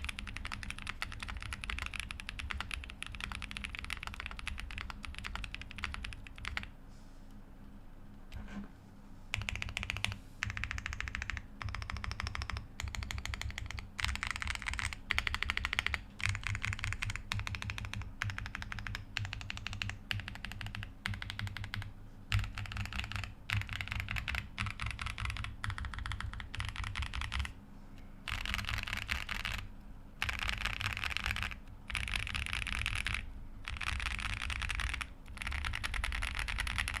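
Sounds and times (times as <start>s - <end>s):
fast typing on mechanical keyboard: 0.0s - 6.7s, 9.3s - 27.6s, 28.2s - 37.0s.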